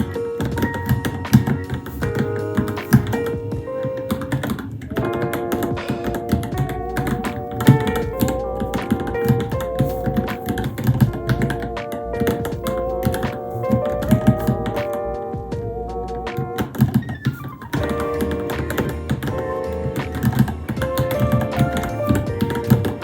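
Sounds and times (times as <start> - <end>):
mechanical keyboard typing: 0.0 - 15.1, 16.3 - 23.0
background music with held notes: 0.0 - 23.0.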